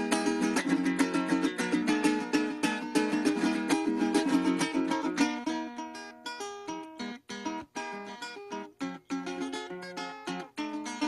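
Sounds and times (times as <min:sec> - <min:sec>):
plucked string melody over chords: 0:00.0 - 0:11.0.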